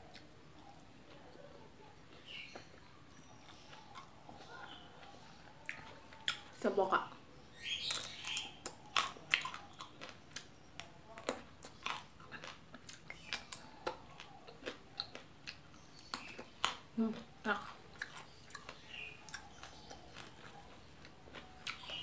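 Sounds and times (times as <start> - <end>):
person chewing crunchy vegetables: 0.0 - 22.0.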